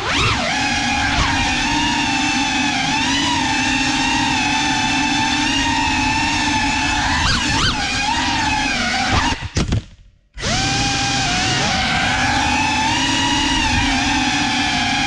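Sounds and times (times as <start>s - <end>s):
drone motors whining: 0.0s - 9.6s, 10.4s - 15.0s.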